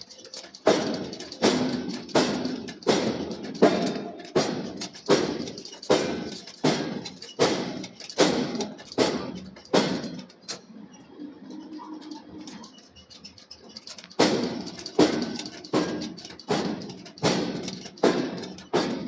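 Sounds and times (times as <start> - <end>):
forging hammer striking steel: 0.0 - 10.5, 14.1 - 19.0.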